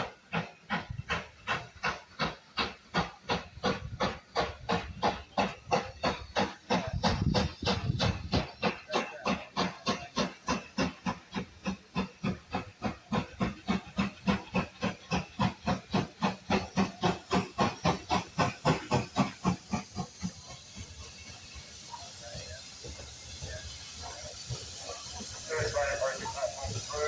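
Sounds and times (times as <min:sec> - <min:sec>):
steam hissing: 0:00.0 - 0:27.0
steam locomotive chuffing: 0:00.0 - 0:27.0.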